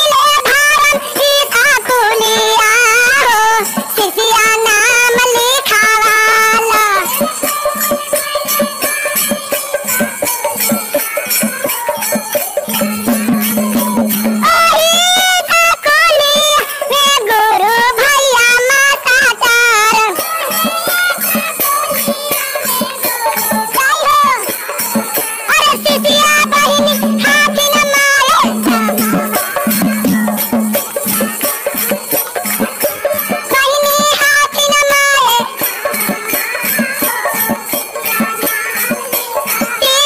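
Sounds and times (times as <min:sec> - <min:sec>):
fast percussion with jingling: 0:00.0 - 0:40.0.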